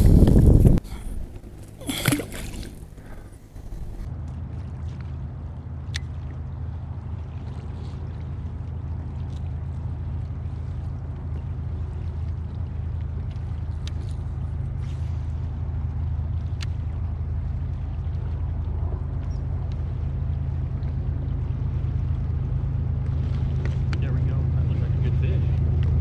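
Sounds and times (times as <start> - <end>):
steady low hum: 0.0 - 26.0
water washing along hull: 0.0 - 26.0.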